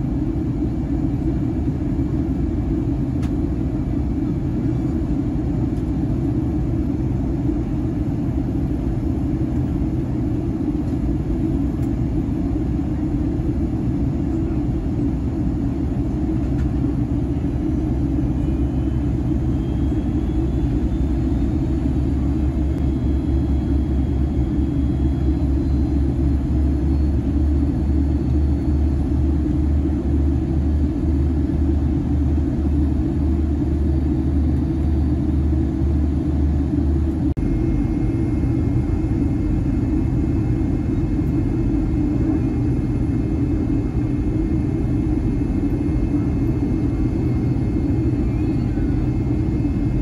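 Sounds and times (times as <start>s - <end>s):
airplane cabin jet engine roar: 0.0s - 50.0s
faint high whine: 0.0s - 50.0s.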